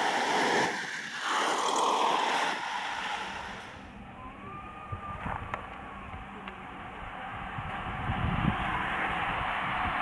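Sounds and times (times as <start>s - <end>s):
bicycles passing with tyre hiss: 0.0s - 4.0s, 5.7s - 10.0s.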